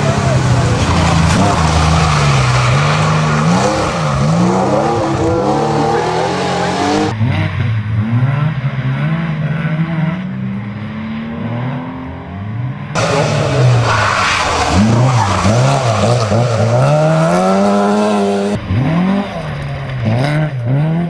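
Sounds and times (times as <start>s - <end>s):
car engine accelerating: 0.0s - 21.0s
rally car engine revving: 0.0s - 21.0s.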